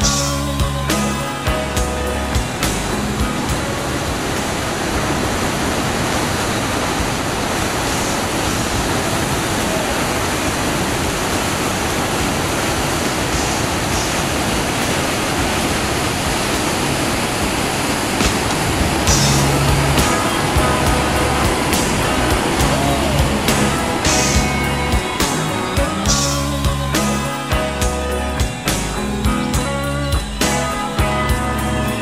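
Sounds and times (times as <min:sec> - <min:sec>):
whitewater rapid roaring: 0:00.0 - 0:32.0.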